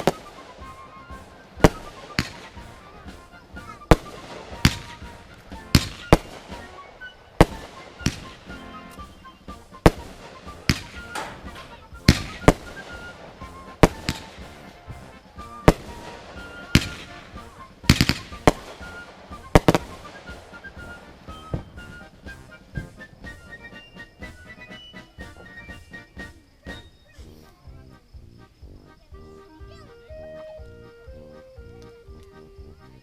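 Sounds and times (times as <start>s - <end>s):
fireworks bangs: 0.0s - 26.6s.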